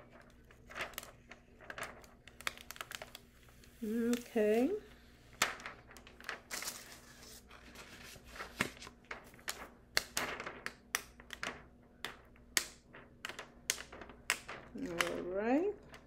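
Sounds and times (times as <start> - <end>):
plastic film and paper rustling: 0.0 - 16.0.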